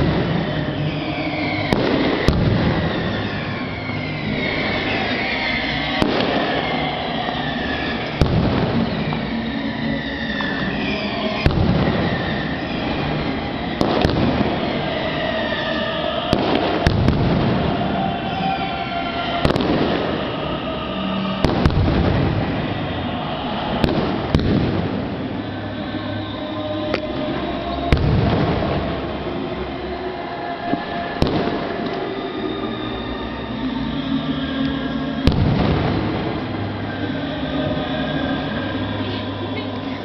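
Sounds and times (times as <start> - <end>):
din of fireworks bursts: 0.0 - 25.6, 27.7 - 29.5, 30.7 - 32.1, 35.1 - 39.2
fireworks bangs: 0.0 - 25.6, 26.6 - 29.8, 30.6 - 32.5, 34.9 - 39.2
fireworks whistling: 0.0 - 40.0.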